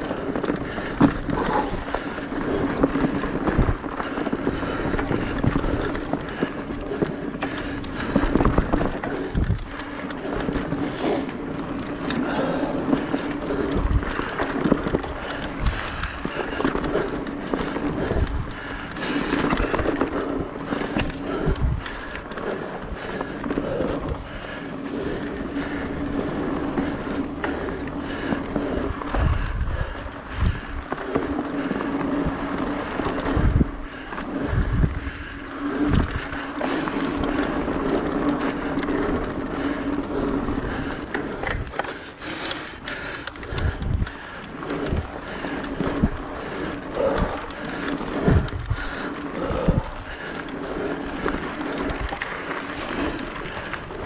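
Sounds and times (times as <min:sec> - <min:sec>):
bike tyres on dirt: 0:00.0 - 0:54.0.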